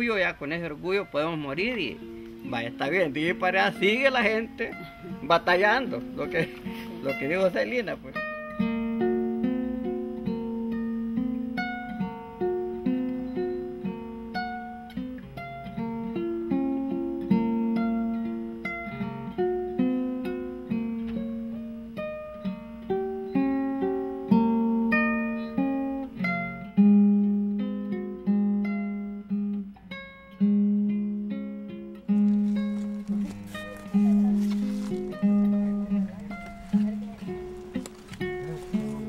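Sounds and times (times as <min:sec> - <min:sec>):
plucked guitar melody: 0:00.0 - 0:39.0.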